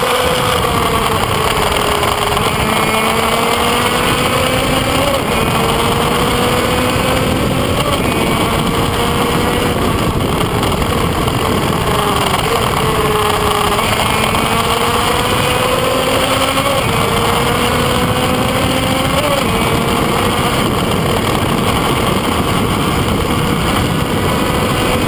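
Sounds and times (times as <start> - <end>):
racing motorcycle engine at full throttle: 0.0 - 25.0
wind rush on camera: 0.0 - 25.0.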